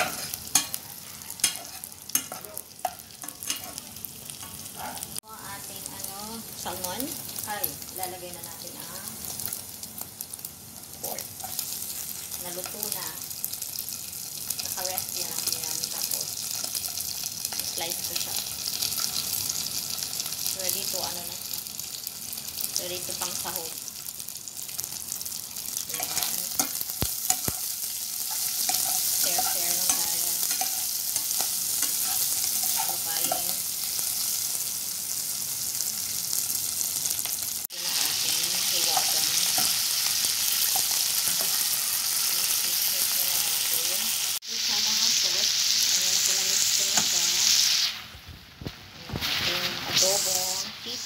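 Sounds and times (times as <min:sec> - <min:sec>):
food sizzling in a frying pan: 0:00.0 - 0:51.0.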